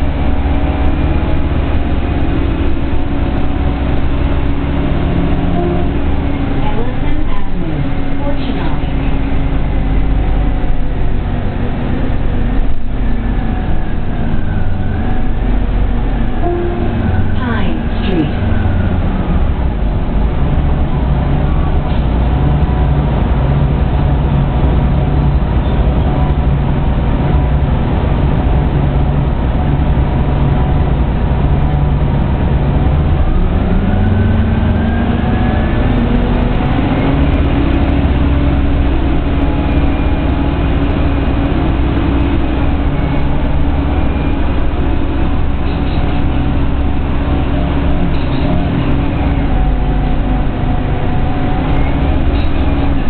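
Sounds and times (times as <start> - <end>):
bus engine and drivetrain: 0.0 - 53.0.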